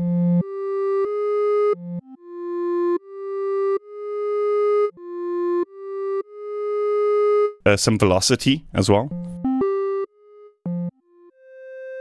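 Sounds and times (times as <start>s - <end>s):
clarinet-like synth melody: 0.0s - 7.6s, 9.0s - 12.0s.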